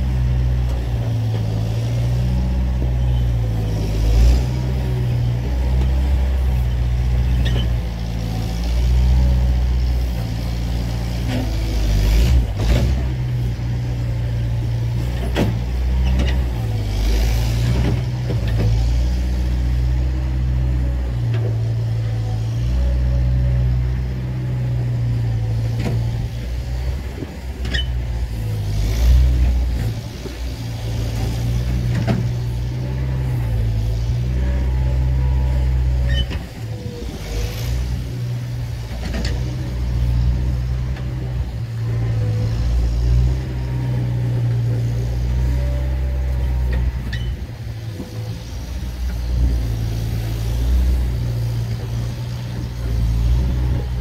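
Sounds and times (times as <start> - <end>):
loader engine rumble: 0.0 - 54.0.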